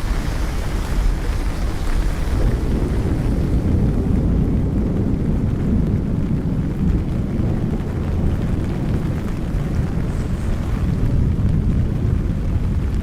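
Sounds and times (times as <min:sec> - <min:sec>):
rainy city street rumble: 0:00.0 - 0:13.0.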